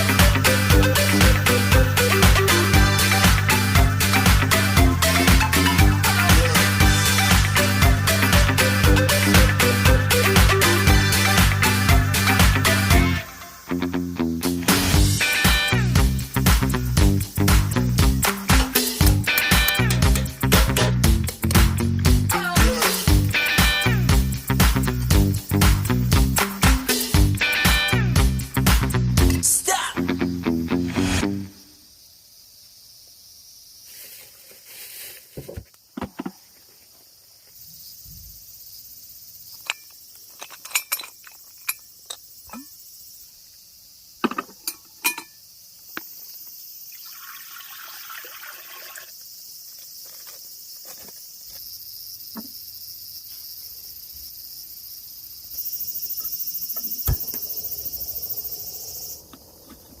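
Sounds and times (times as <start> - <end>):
insects chirring: 0.0 - 60.0.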